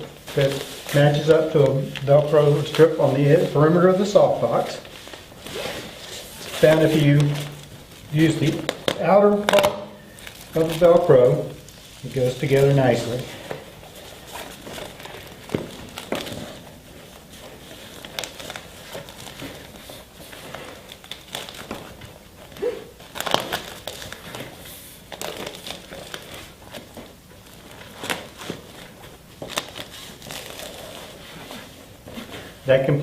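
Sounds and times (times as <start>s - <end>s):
fabric rustling and crinkling: 0.0s - 33.0s
velcro crackling: 0.0s - 33.0s.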